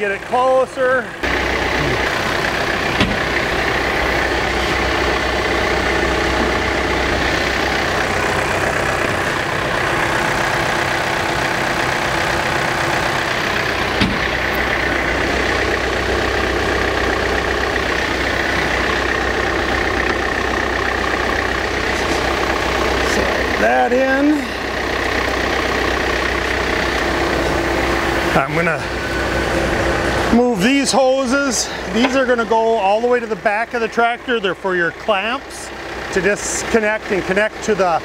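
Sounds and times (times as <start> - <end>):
diesel tractor engine idling: 0.0 - 38.0.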